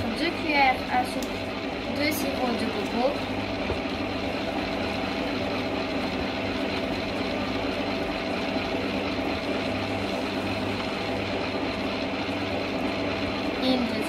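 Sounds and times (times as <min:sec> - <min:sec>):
beater churning thick batter: 0:00.0 - 0:14.0
stand mixer motor humming: 0:00.0 - 0:14.0.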